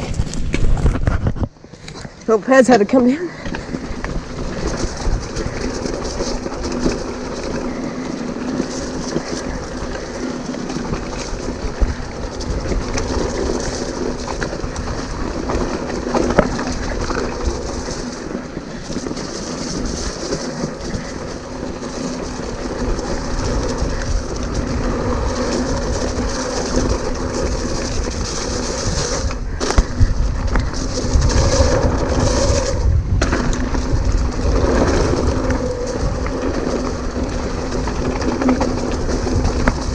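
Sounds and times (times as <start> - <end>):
bike rattling over bumps: 0.0 - 39.9
tyres rolling on dirt: 0.0 - 39.9
wind buffeting microphone: 3.0 - 39.9.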